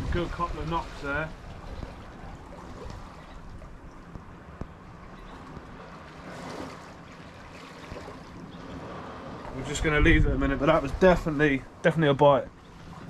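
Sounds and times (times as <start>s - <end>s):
sea at the shoreline: 0.0s - 13.0s
wind: 0.0s - 13.0s.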